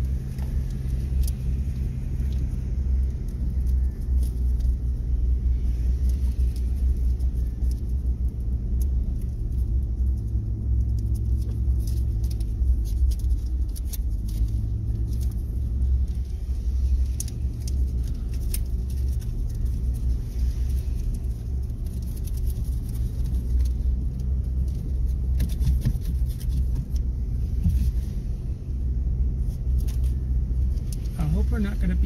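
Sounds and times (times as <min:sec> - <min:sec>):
car rumble from inside cabin: 0:00.0 - 0:32.0.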